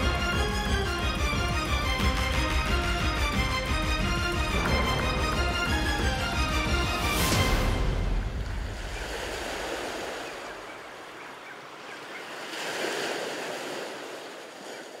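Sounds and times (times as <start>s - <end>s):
ocean surf washing onto beach: 0.0s - 14.8s.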